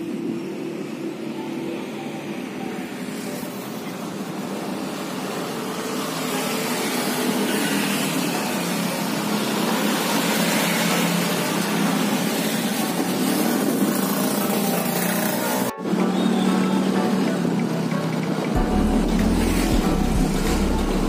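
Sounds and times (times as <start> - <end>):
motorcycles passing: 2.0 - 21.0.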